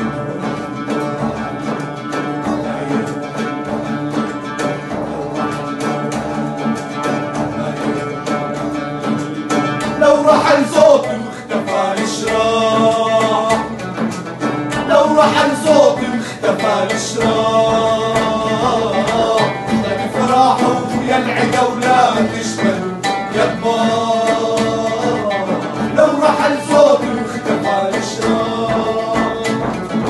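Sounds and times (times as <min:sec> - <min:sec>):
classical guitar: 0:00.0 - 0:30.0
frame drum: 0:00.0 - 0:30.0
men singing together: 0:00.0 - 0:30.0
oud: 0:00.0 - 0:30.0.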